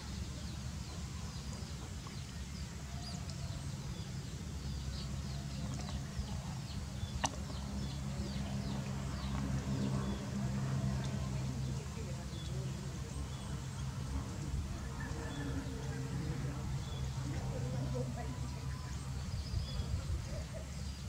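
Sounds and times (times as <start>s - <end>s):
low steady hum: 0.0s - 21.0s
small birds chirping: 0.0s - 21.0s.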